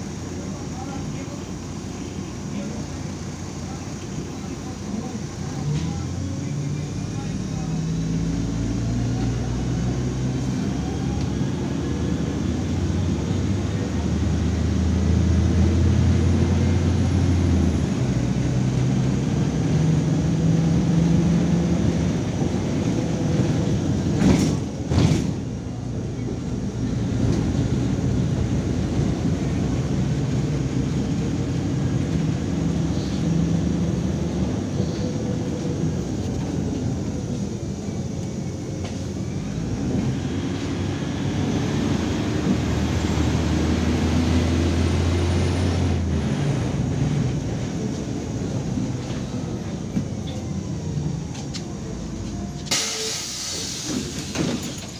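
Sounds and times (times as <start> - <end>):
bus diesel engine running: 0.0 - 54.9
road noise: 0.0 - 54.9.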